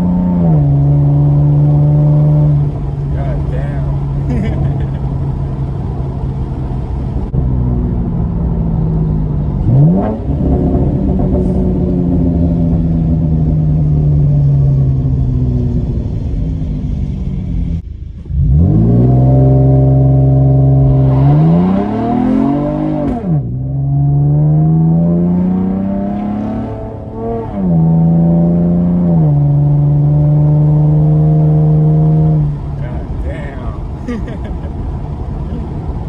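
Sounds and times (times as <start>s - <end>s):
car engine accelerating and shifting: 0.0s - 36.0s.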